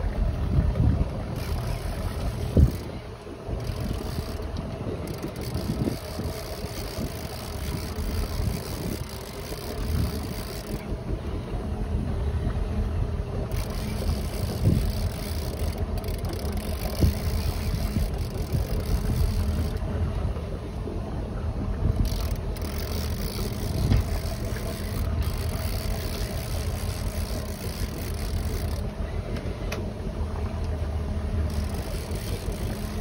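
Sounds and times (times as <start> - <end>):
boat engine rumbling: 0.0 - 33.0
wind: 0.0 - 33.0.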